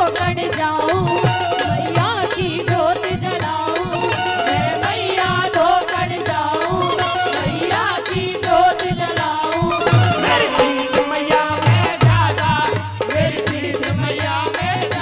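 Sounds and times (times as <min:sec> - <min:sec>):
held melody line: 0:00.0 - 0:12.7
hand drum beat: 0:00.0 - 0:15.0
woman singing: 0:00.0 - 0:15.0.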